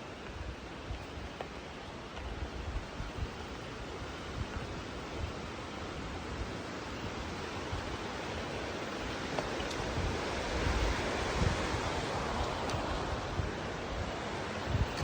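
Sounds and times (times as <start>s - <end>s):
rushing wind or water: 0.0s - 15.0s.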